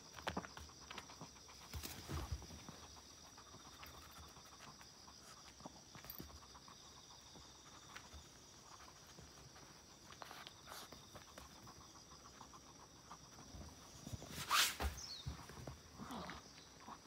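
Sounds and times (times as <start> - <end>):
dog sniffing and snuffling: 0.0 - 17.0.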